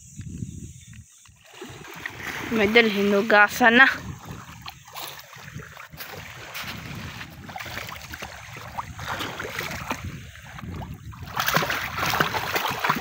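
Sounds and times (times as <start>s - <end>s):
seawater sloshing and splashing: 1.4s - 13.0s.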